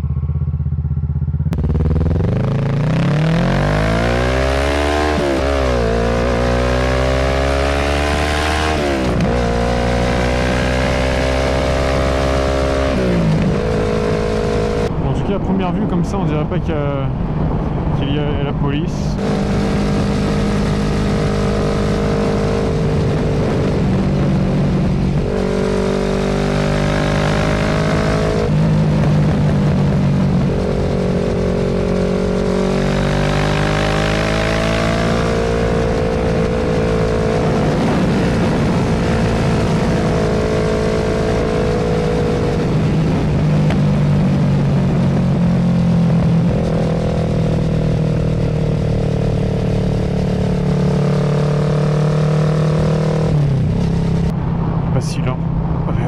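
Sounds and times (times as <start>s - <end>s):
motorcycle engine shifting gears: 0.0s - 15.0s, 19.1s - 54.4s
wind noise: 0.0s - 56.0s.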